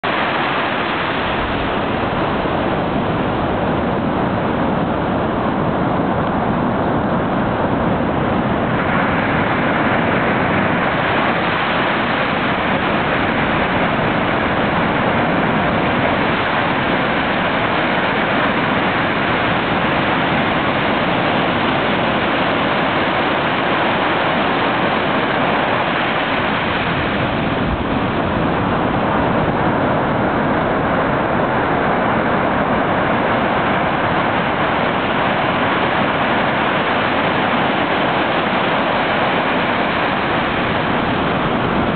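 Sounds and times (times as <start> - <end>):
ocean waves breaking on beach: 0.0 - 41.9.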